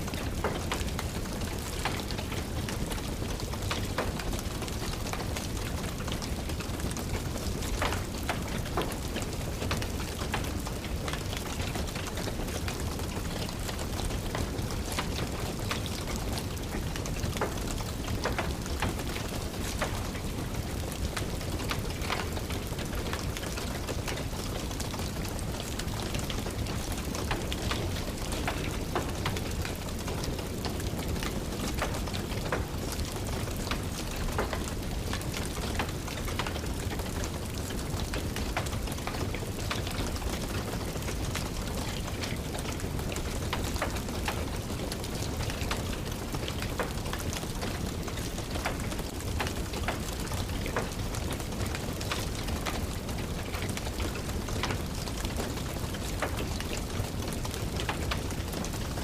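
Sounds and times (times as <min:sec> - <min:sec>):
rain tapping on windowsill: 0:00.0 - 0:59.0
wood fire crackling and popping: 0:00.1 - 0:59.0.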